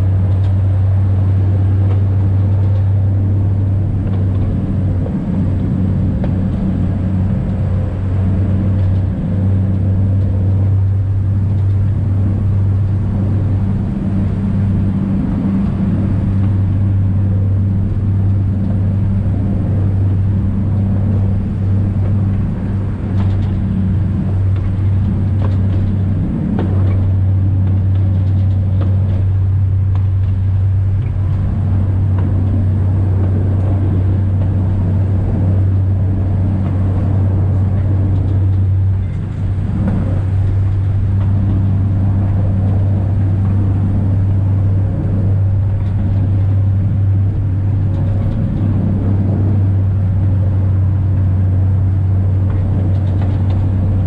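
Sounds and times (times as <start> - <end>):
train diesel engine hum: 0.0 - 54.0.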